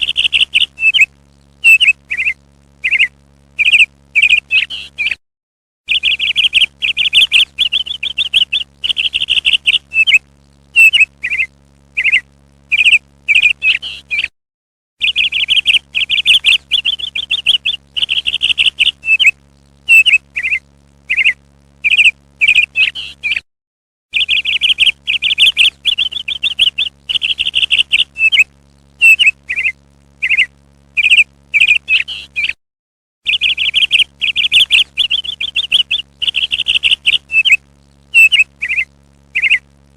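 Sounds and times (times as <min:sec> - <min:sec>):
parrot chattering trills: 0:00.0 - 0:05.2, 0:05.9 - 0:10.2, 0:10.8 - 0:14.3, 0:15.1 - 0:19.3, 0:19.9 - 0:23.4, 0:24.2 - 0:32.6, 0:33.3 - 0:39.6
parrot chirps: 0:00.0 - 0:05.2, 0:05.9 - 0:10.2, 0:10.8 - 0:14.3, 0:15.0 - 0:23.4, 0:24.1 - 0:32.6, 0:33.3 - 0:39.6.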